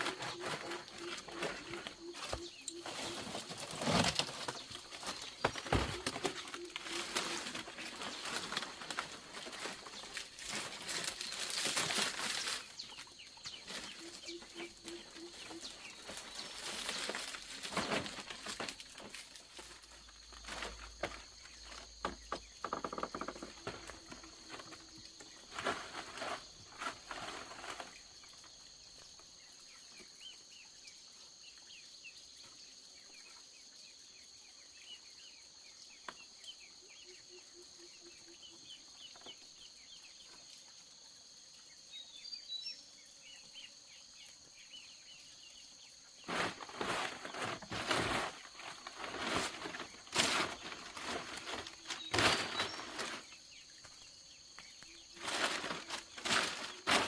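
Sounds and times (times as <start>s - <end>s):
insects droning high-pitched: 0.0s - 57.0s.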